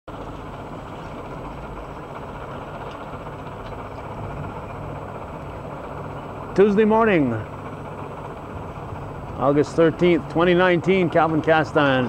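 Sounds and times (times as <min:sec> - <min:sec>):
low engine rumble: 0:00.1 - 0:12.0.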